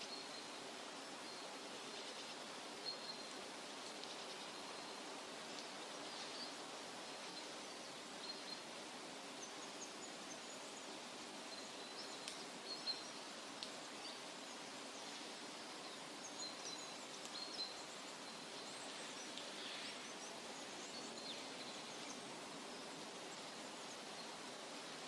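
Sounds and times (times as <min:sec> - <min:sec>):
small birds chirping: 0:00.0 - 0:25.0
soft steady hiss: 0:00.0 - 0:25.0.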